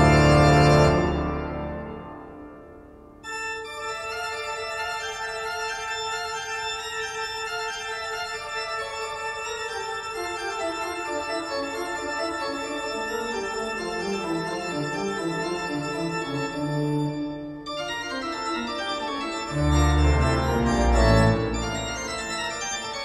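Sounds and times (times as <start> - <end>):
organ-like keyboard chords: 0.0 - 23.0.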